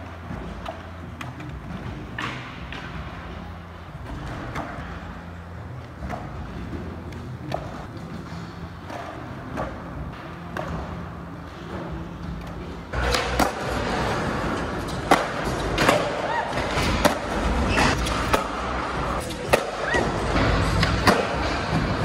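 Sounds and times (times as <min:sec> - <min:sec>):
skateboard wheels rolling on concrete: 0:00.0 - 0:22.0.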